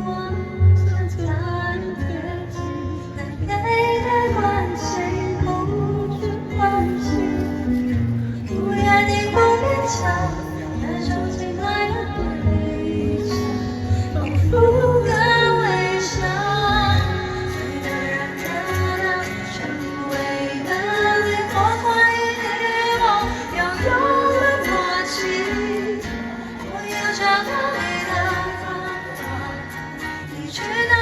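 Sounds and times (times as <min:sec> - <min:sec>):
live band backing: 0:00.0 - 0:31.0
woman singing love song: 0:00.0 - 0:31.0.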